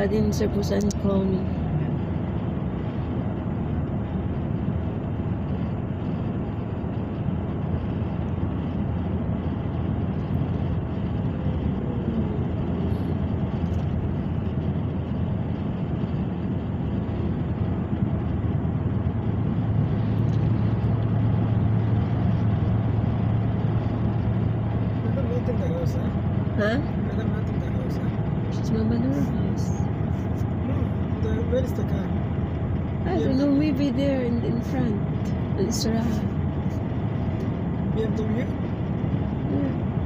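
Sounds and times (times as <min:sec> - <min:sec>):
car road and engine noise: 0:00.0 - 0:40.0
low hum: 0:00.0 - 0:40.0.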